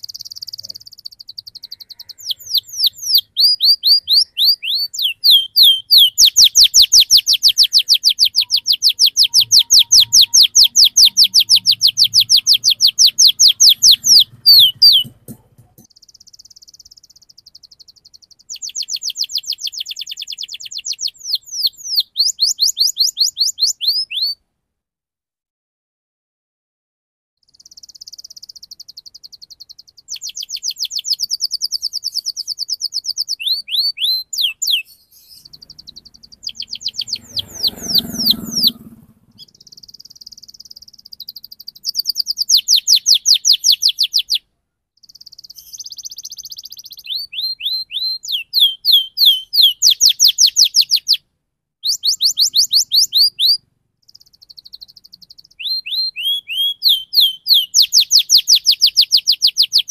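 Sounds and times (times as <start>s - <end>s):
canary singing trills: 0.0s - 24.4s, 27.4s - 51.2s, 51.8s - 59.9s.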